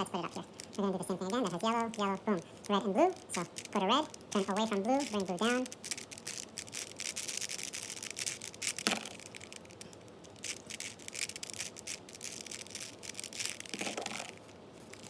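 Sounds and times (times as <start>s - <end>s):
puzzle cube clicking as turned: 0.2s - 15.0s.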